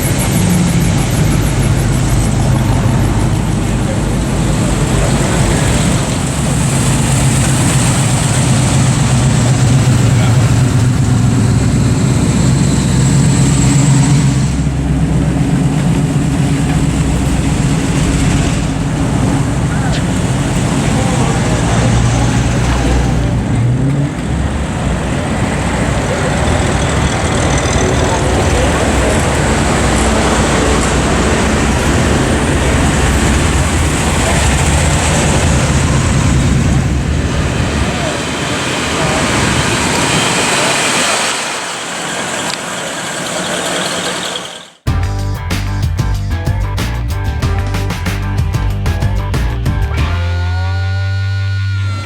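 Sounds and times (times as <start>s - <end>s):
car engine rumbling: 0.0s - 52.0s
road noise: 0.0s - 52.0s.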